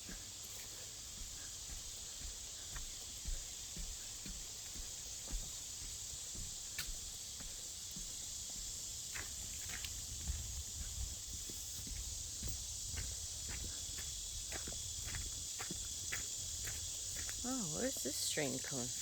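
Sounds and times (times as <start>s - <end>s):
footsteps on wet dirt trail: 0.0s - 19.0s
steady high-pitched hiss: 0.0s - 19.0s.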